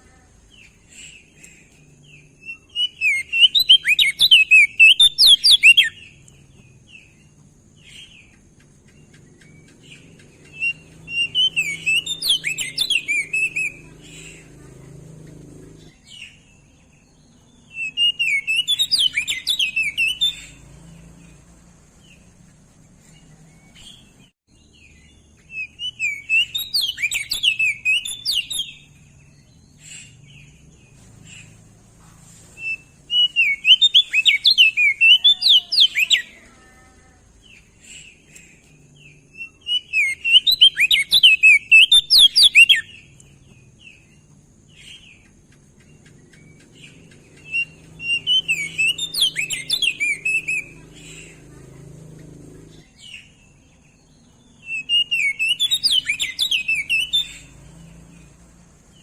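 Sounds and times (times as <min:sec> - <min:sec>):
bird singing rapid high chirps: 0:00.3 - 0:36.6, 0:37.2 - 0:59.0.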